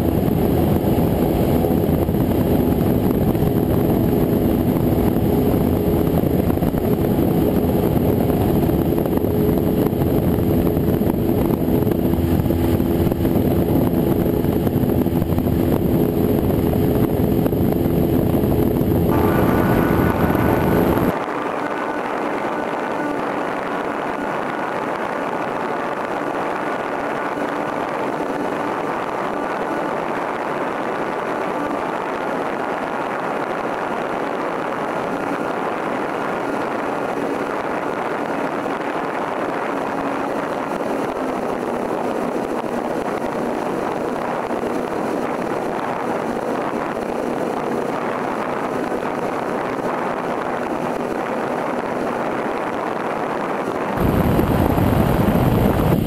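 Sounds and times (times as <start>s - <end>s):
light aircraft engine and propeller: 0.0s - 56.0s
rushing air noise: 0.0s - 56.0s.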